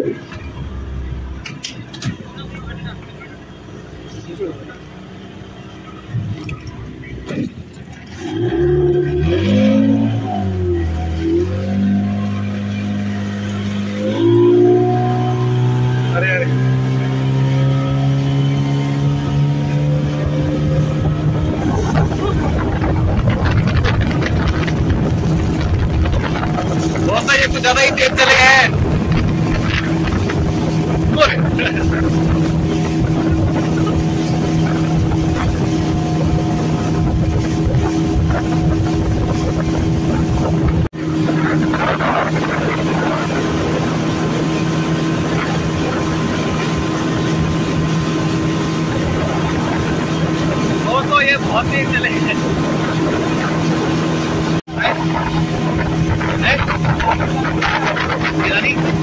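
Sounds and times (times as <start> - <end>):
speedboat engine running: 0.0 - 59.0
water rushing past hull: 0.0 - 59.0.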